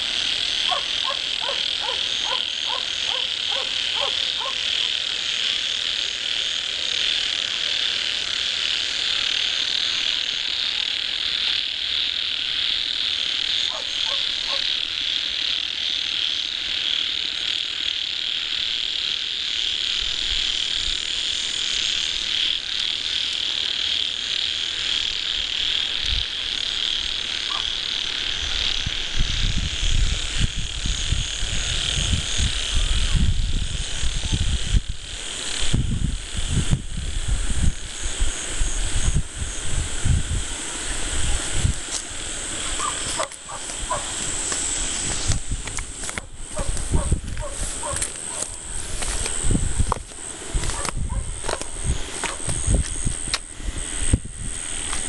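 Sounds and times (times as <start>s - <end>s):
frogs croaking: 0.0s - 55.0s
insects chirping: 0.0s - 55.0s.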